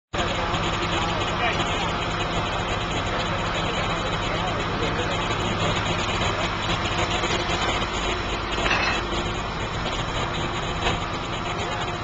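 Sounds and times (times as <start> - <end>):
truck engine idling: 0.2 - 12.0.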